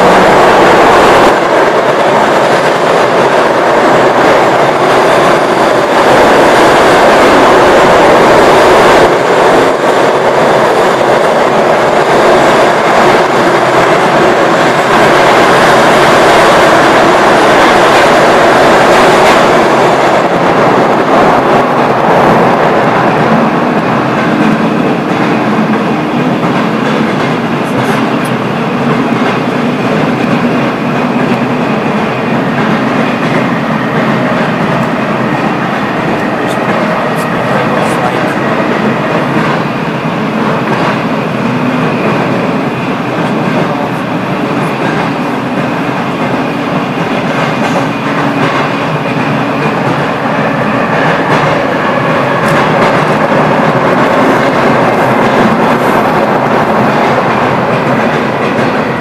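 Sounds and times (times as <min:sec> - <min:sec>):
metro train rumbling in tunnel: 0:00.0 - 0:59.0.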